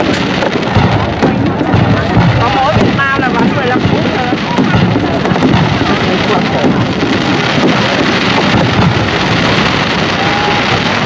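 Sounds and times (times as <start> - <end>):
fireworks crackling and popping: 0.0 - 11.0
fireworks low booms: 0.0 - 11.0.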